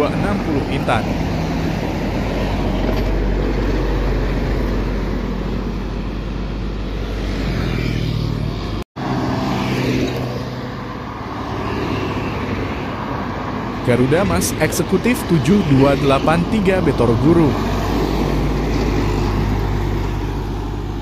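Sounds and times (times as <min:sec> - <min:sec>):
bus diesel engine passing: 0:00.0 - 0:21.0
road traffic rushing past: 0:00.0 - 0:21.0.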